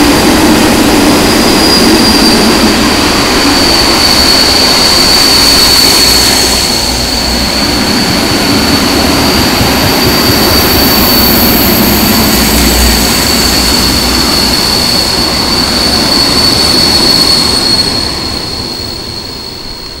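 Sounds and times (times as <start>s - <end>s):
train wheels rumbling on rails: 0.0s - 20.0s
high-pitched wheel squeal: 0.8s - 20.0s.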